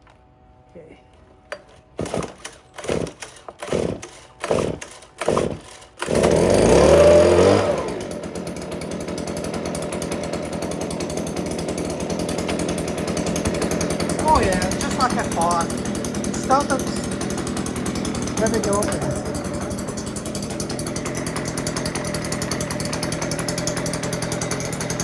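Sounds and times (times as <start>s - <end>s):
leaf blower engine idling: 0.8s - 25.0s.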